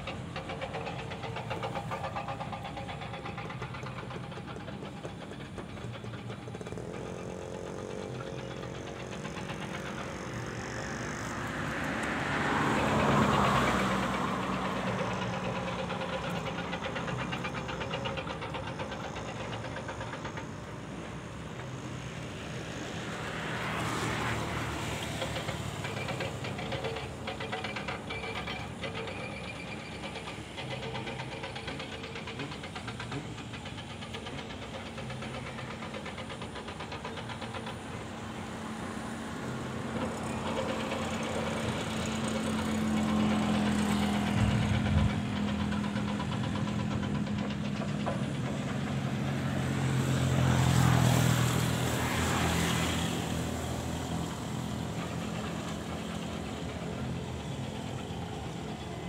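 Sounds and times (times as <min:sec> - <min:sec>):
vehicle engines humming: 0:00.0 - 0:59.0.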